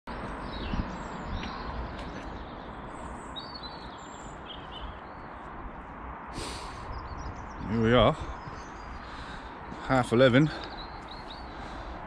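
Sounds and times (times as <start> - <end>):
bird chirps: 0.1 - 5.6, 6.7 - 11.9.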